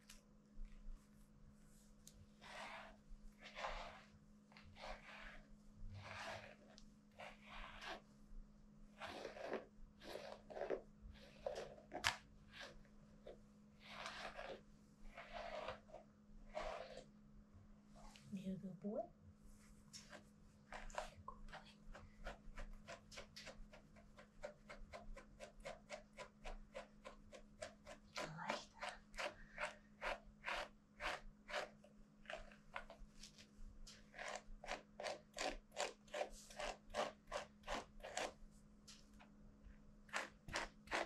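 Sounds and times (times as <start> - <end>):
brush scratching through dog fur: 1.7 - 8.1, 8.9 - 17.1, 20.0 - 38.5, 40.1 - 41.0.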